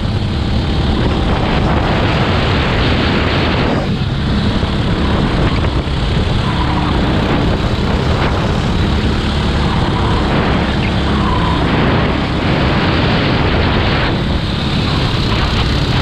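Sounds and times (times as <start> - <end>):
go-kart engine: 0.0 - 16.0.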